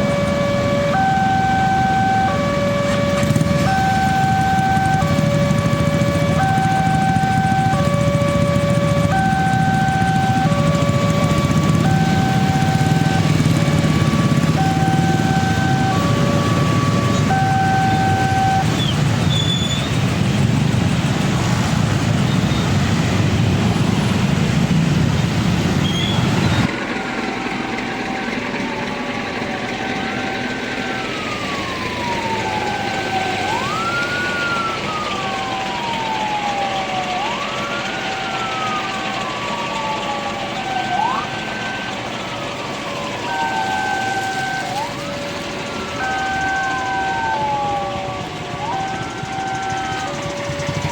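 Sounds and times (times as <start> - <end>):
level crossing alarm: 0.0 - 20.2, 25.5 - 50.9
passing train rumble: 0.0 - 50.9
wailing siren: 0.0 - 50.9.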